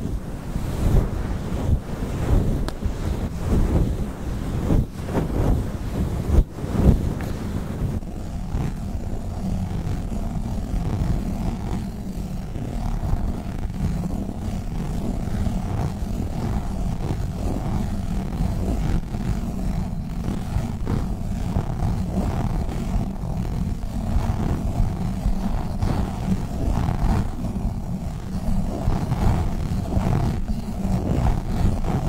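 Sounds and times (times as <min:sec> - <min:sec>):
small irregular crackles: 0:00.0 - 0:32.0
squishy toy rubbing microphone: 0:00.0 - 0:32.0.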